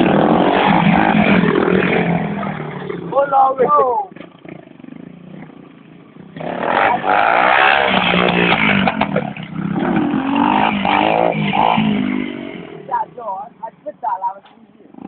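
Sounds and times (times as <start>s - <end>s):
motocross bike engine revving: 0.0s - 13.6s.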